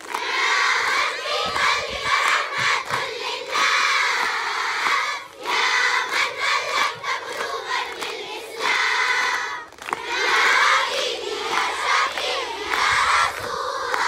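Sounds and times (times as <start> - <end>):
crowd of girls chanting: 0.0 - 14.0.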